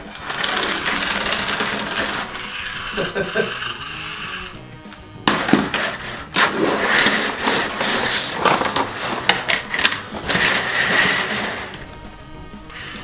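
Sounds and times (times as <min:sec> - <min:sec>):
plastic track pieces rattling: 0:00.0 - 0:04.5, 0:05.5 - 0:11.9.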